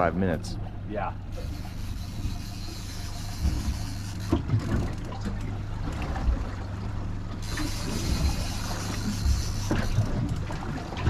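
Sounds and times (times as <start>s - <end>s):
boat motor idling: 0.6s - 11.0s
knocks and clicks on boat: 1.4s - 11.0s.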